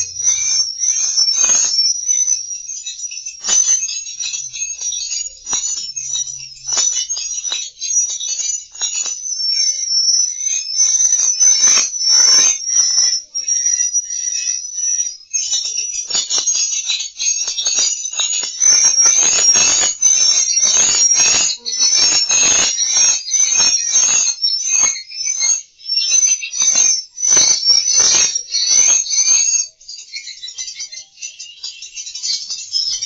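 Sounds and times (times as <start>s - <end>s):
rapid high-pitched bird chirps: 0.0s - 33.0s.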